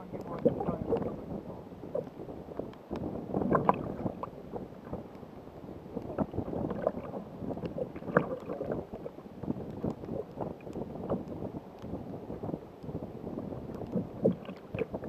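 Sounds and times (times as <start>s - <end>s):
water splashing against kayak hull: 0.0s - 5.2s, 6.0s - 15.0s.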